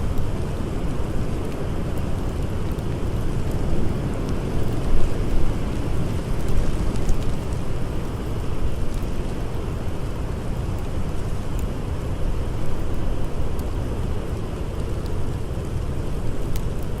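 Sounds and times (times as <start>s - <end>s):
blizzard wind blowing: 0.0s - 17.0s
campfire crackling: 0.0s - 17.0s.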